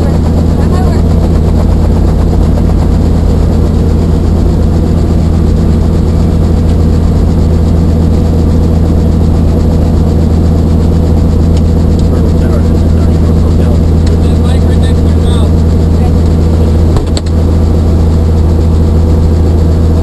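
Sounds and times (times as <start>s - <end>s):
helicopter engine and rotor idling: 0.0s - 20.0s.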